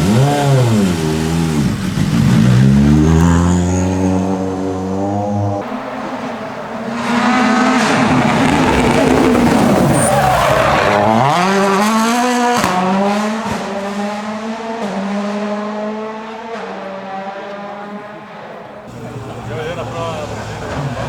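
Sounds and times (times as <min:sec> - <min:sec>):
rally car passing at speed: 0:00.0 - 0:21.0.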